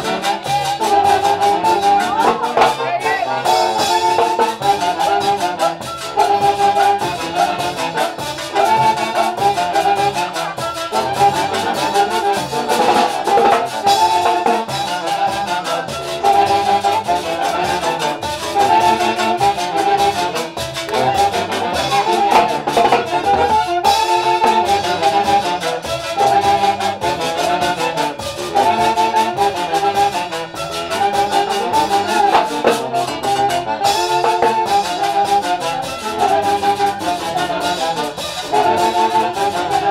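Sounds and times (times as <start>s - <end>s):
orchestra playing: 0.0s - 39.9s
steady drum beat: 0.0s - 39.9s
wind instruments melody: 0.0s - 39.9s.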